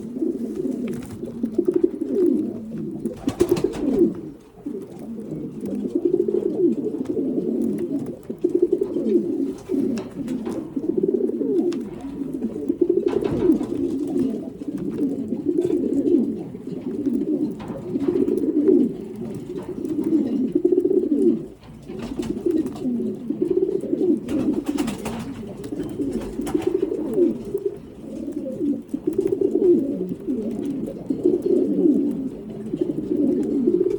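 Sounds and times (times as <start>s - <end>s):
pigeons cooing: 0.0s - 33.9s.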